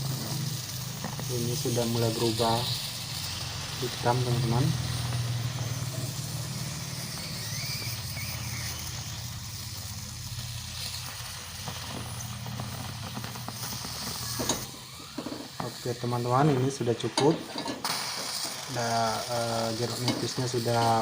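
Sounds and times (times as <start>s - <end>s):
stove burner flame rumbling: 0.0s - 21.0s.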